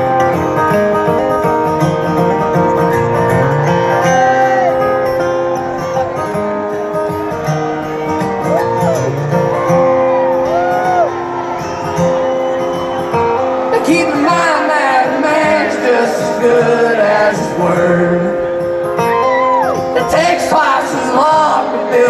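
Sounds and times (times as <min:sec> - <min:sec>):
acoustic guitar: 0:00.0 - 0:22.0
country band playing: 0:00.0 - 0:22.0.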